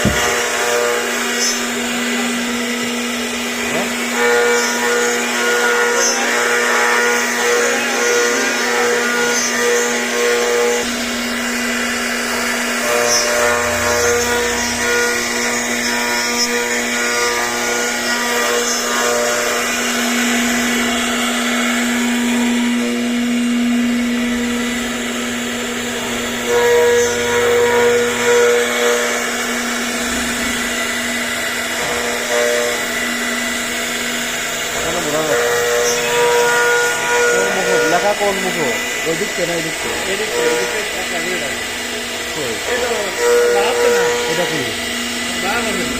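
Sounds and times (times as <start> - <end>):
cnc router motor hum: 0.0 - 45.9
router whine shifting in pitch: 0.0 - 45.9.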